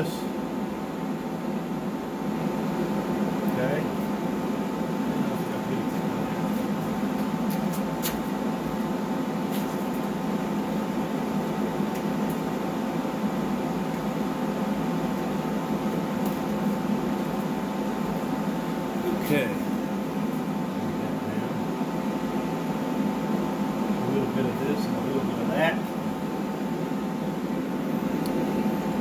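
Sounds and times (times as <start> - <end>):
extractor fan humming: 0.0 - 29.0.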